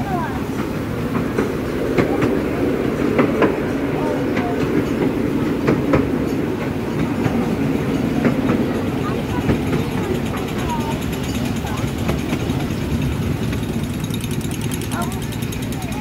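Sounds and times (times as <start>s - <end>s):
miniature train rumbling: 0.0s - 16.0s
wheels clicking over rail joints: 0.0s - 16.0s.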